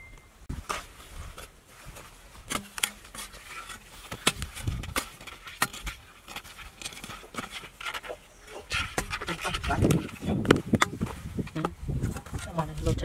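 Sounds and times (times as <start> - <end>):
metal tool digging into dry mud: 2.4 - 13.0.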